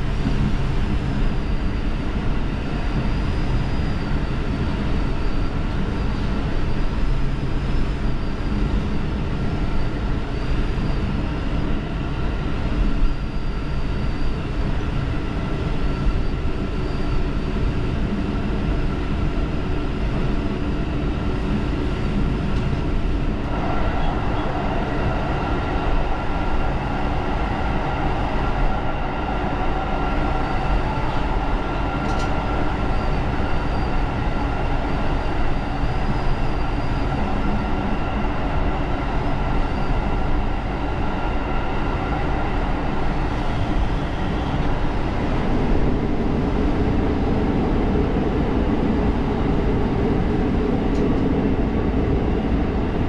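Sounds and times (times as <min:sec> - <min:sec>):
railcar engine and track noise: 0:00.0 - 0:53.0.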